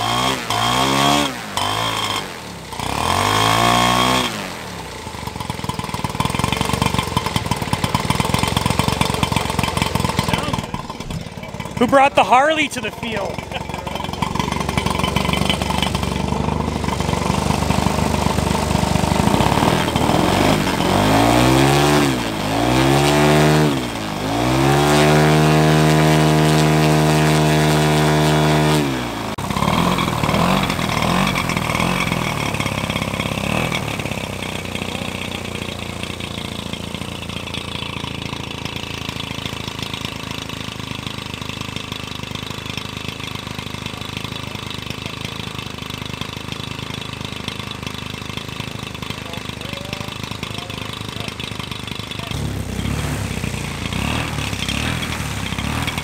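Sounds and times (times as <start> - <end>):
model plane engine revving: 0.0 - 56.0.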